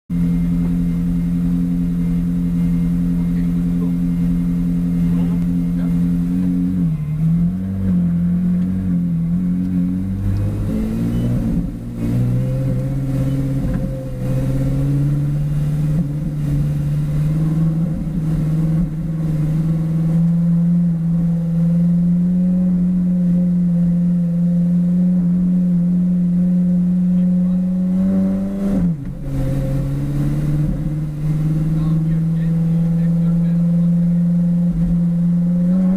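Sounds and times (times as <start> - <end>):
car engine at low revs: 0.1 - 35.9.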